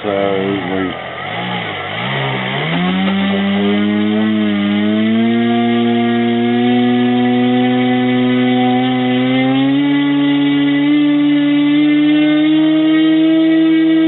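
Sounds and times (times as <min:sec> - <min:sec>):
rc airplane motor whine: 0:00.1 - 0:14.0.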